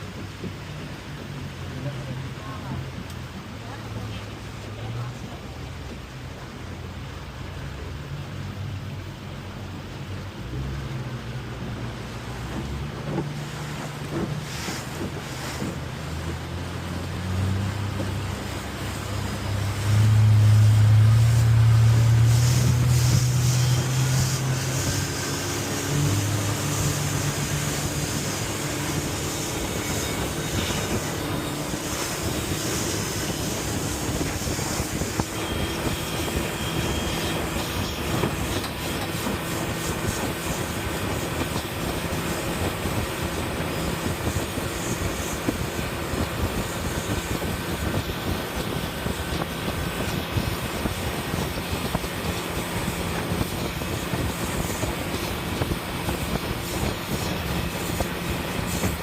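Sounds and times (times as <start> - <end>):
boat motor running: 0.0 - 59.0
low engine hum: 0.0 - 59.0
wind and water rushing: 0.0 - 59.0.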